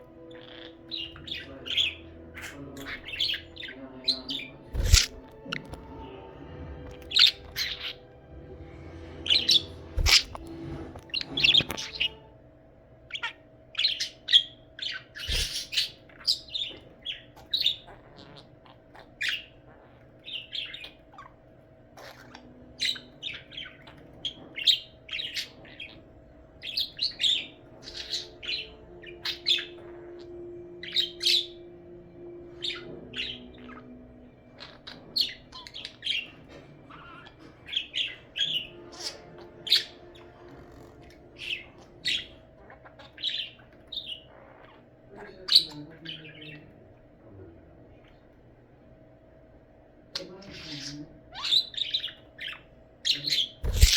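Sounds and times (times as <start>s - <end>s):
budgerigar chirping: 0.0s - 6.0s, 6.8s - 12.3s, 13.1s - 21.4s, 22.0s - 46.7s, 50.2s - 53.9s.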